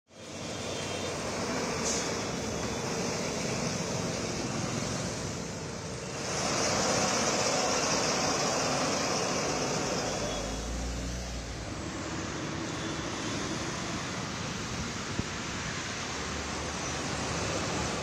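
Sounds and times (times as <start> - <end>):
road traffic noise: 0.1 - 18.0
tanker truck driving by: 0.2 - 15.4.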